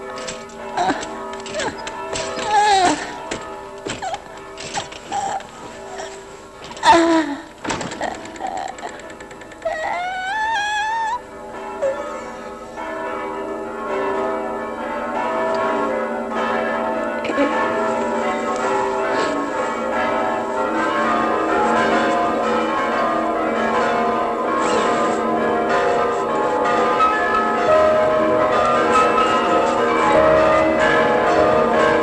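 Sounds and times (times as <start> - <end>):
bells pealing: 0.0 - 7.6, 8.2 - 32.0.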